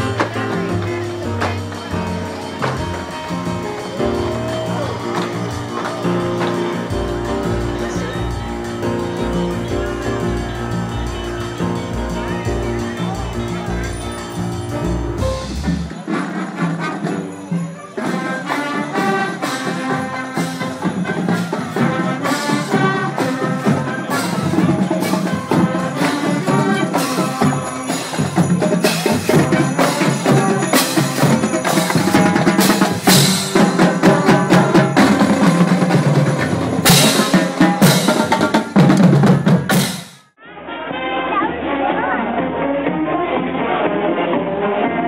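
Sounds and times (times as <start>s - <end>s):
saxophones playing tune: 0.0s - 38.6s
drumline steady beat: 0.0s - 40.3s.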